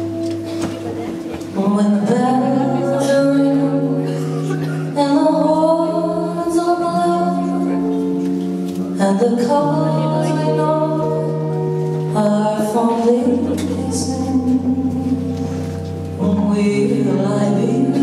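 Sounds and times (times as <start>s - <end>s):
double bass: 0.0s - 18.0s
guitar: 0.0s - 18.0s
woman singing: 1.5s - 8.0s, 9.0s - 15.3s, 16.2s - 18.0s.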